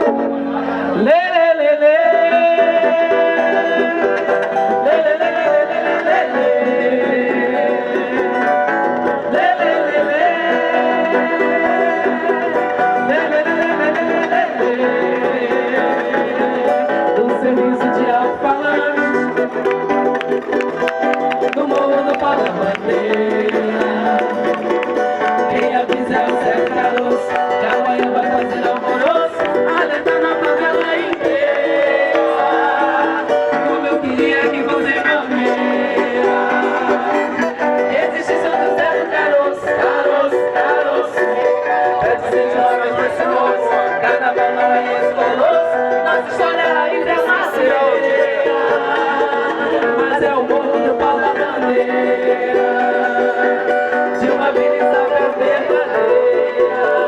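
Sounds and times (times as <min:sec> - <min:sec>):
plucked string instruments: 0:00.0 - 0:57.0
samba band playing: 0:02.0 - 0:57.0.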